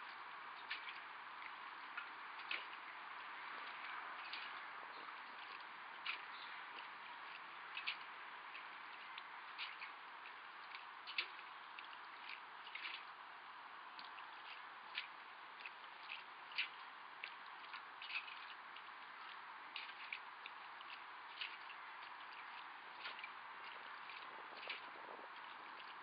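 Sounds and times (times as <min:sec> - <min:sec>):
faint steady hiss: 0:00.0 - 0:26.0
water drips and splashes: 0:00.0 - 0:26.0.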